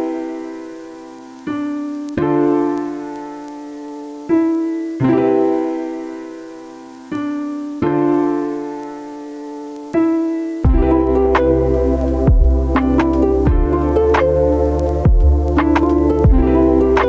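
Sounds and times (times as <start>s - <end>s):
slow solo piano chords: 0.0s - 17.0s.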